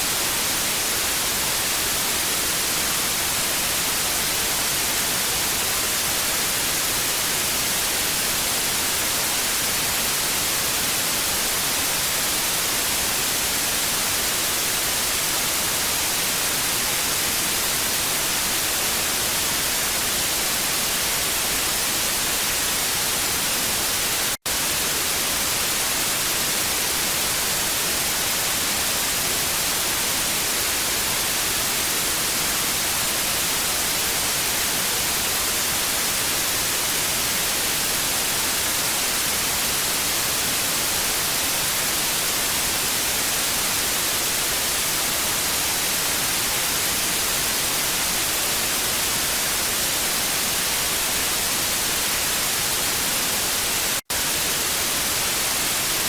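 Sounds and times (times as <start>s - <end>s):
tv static hiss: 0.0s - 56.0s.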